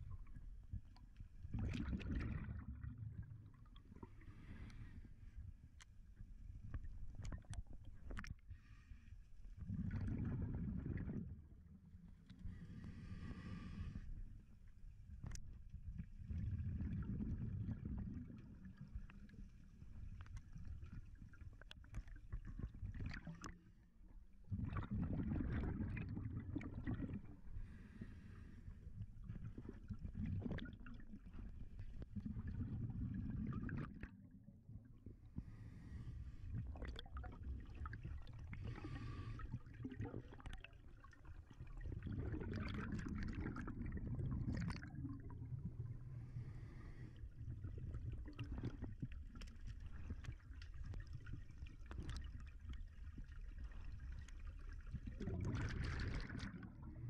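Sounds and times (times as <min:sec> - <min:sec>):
exhaled bubbles rumbling underwater: 0:00.0 - 0:57.0.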